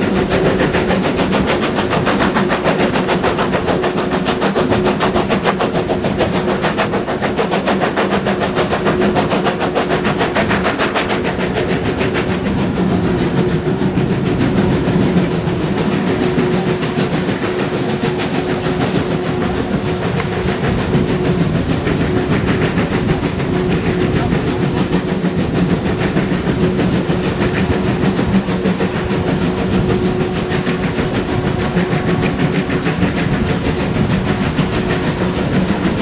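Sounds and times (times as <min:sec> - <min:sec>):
steam locomotive exhaust beats: 0:00.0 - 0:36.0
wheels clattering on rail: 0:00.0 - 0:36.0.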